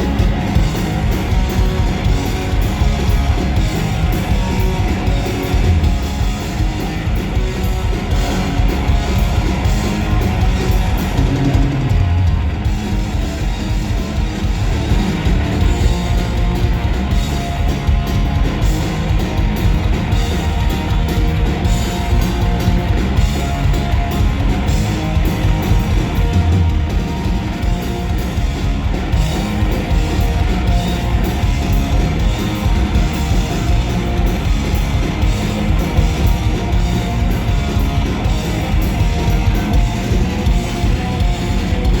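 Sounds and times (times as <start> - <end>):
drum kit: 0.0 - 42.0
guitars: 0.0 - 42.0.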